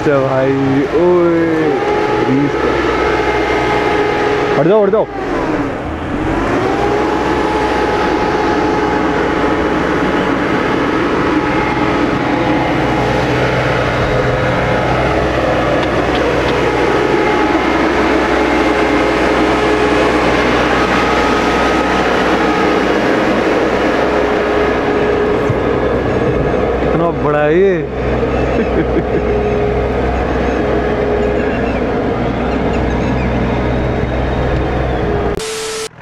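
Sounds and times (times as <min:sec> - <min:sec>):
diesel engine droning with whine: 0:00.0 - 0:36.0.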